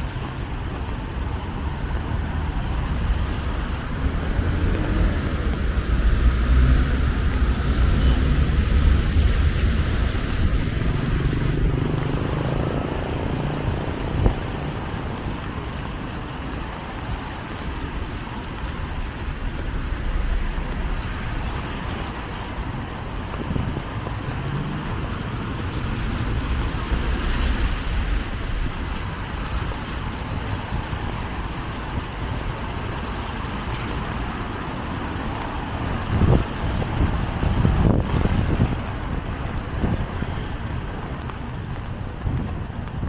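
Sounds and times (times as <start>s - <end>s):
passing cars and buses: 0.0s - 43.0s
tyres hissing on wet road: 0.0s - 43.0s.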